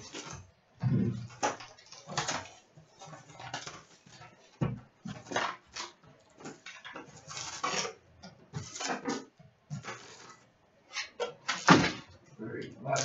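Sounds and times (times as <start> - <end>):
cardboard and wrappers rustling: 0.0 - 12.1, 12.8 - 13.0.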